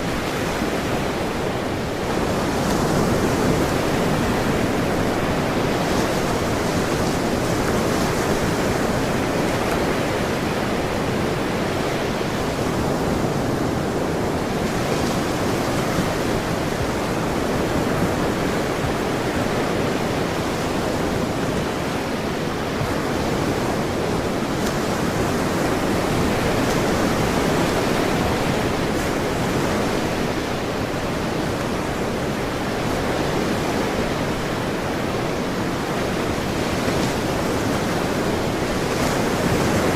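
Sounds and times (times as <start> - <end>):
ocean surf waves breaking: 0.0 - 39.9.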